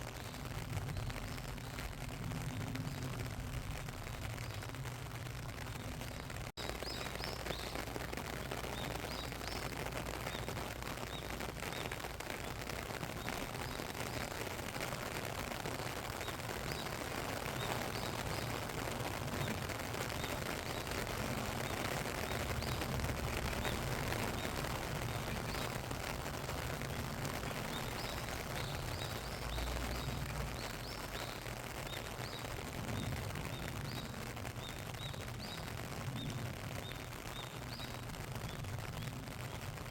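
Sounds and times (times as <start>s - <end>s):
small birds chirping: 0.0s - 39.9s
steady rain falling: 0.0s - 39.9s.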